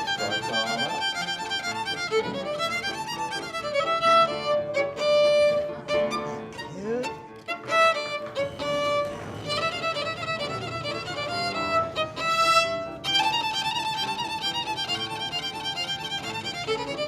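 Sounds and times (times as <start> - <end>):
violin melody: 0.0 - 17.0.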